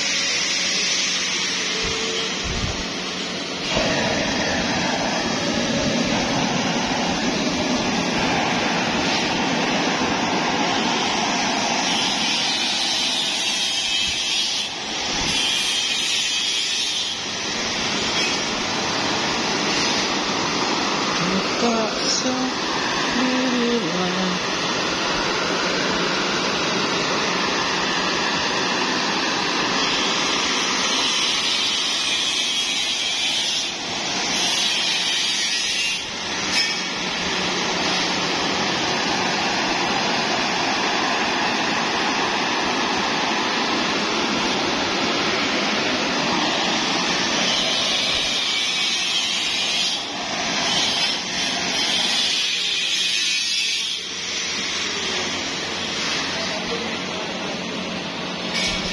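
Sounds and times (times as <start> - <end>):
gas burners roaring: 0.0 - 52.9.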